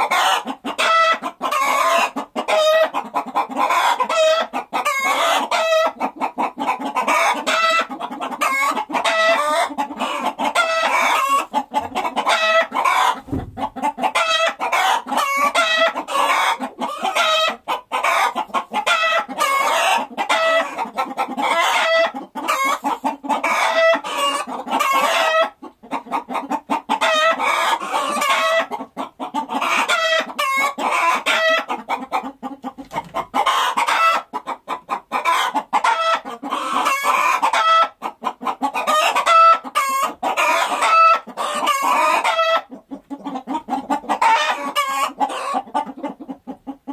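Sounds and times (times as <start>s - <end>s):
hens clucking: 0.0s - 46.9s.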